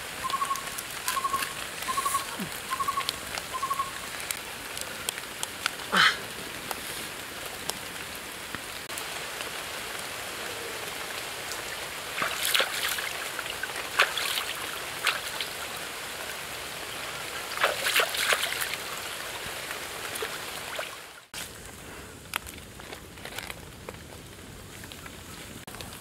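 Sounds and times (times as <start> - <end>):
water splashing and dripping: 0.0 - 21.5
stream water running: 0.0 - 21.8.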